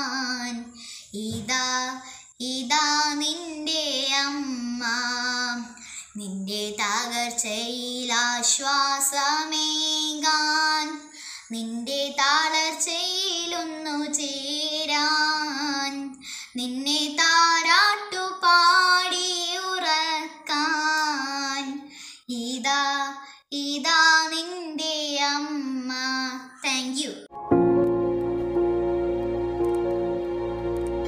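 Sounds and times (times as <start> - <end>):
girl singing unaccompanied: 0.0 - 27.3.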